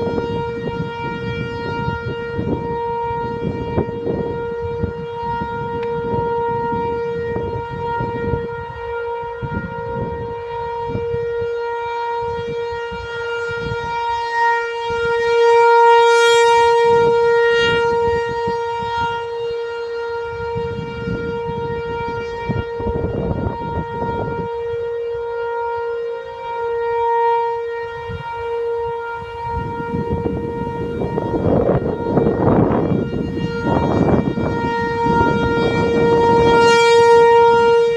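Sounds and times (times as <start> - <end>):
warning siren steady tone: 0.0 - 37.9.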